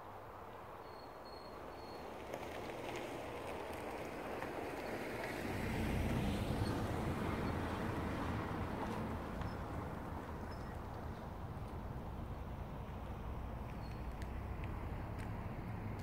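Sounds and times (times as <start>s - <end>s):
road noise: 0.0s - 16.0s
vehicle engine rumble: 1.6s - 16.0s.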